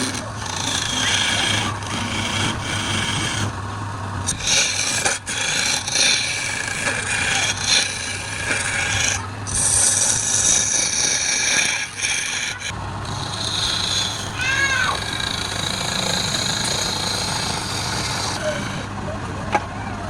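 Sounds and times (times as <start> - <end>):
turning tool scraping wood: 0.0 - 18.9
lathe motor humming: 0.0 - 19.3.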